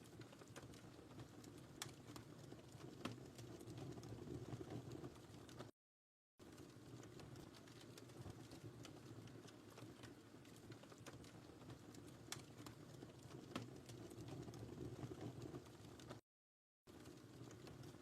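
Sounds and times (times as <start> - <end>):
wood fire crackling: 0.0 - 5.7, 6.4 - 16.2, 16.9 - 18.0.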